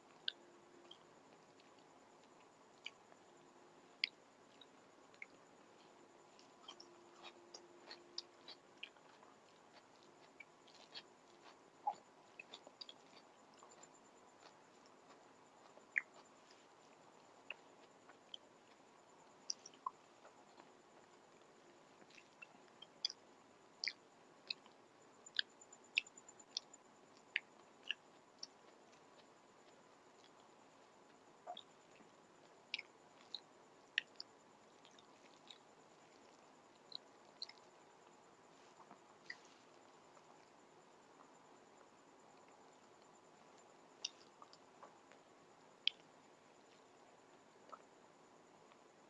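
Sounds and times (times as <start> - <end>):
chewing clicks and smacks: 0.1 - 3.3, 4.0 - 41.4, 42.3 - 47.0, 47.6 - 48.0.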